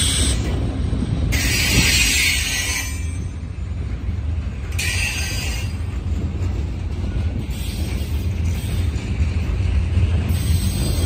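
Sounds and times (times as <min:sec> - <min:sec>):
steel wheels rumbling on rail: 0:00.0 - 0:11.0.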